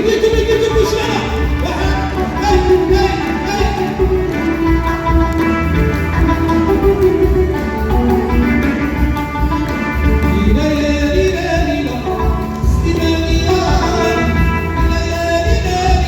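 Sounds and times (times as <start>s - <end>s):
amplified folk band playing: 0.0s - 16.0s.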